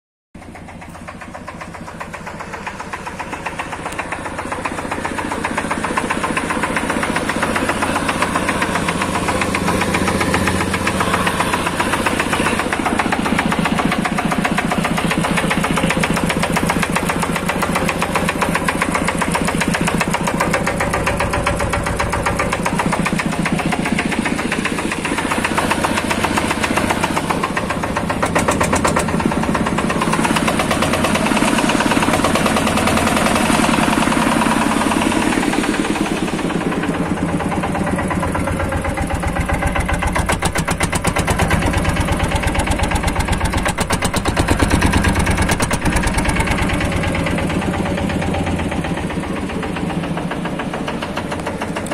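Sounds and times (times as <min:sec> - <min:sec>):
tractor engine knocking: 0:00.4 - 0:51.9.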